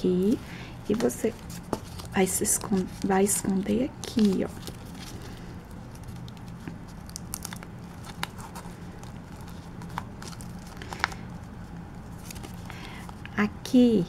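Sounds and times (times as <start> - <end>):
card rustling and crinkling: 0.8 - 13.3.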